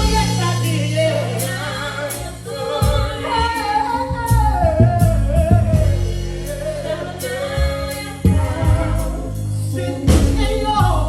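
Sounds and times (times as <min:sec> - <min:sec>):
backing singers: 0:00.0 - 0:11.0
bass keyboard and drums: 0:00.0 - 0:11.0
solo voice singing: 0:00.0 - 0:11.0.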